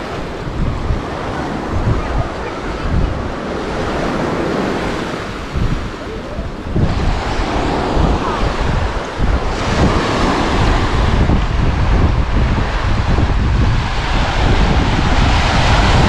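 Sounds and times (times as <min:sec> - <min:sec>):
surf washing onto beach: 0:00.0 - 0:16.0
wind rumbling on microphone: 0:00.0 - 0:16.0.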